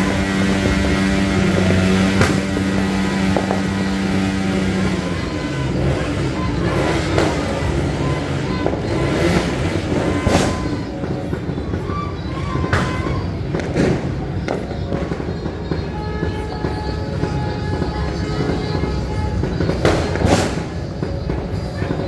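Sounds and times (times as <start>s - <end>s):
firecracker bangs: 0.0s - 22.0s
loud street noise: 0.0s - 22.0s
vehicle engine running: 0.0s - 22.0s.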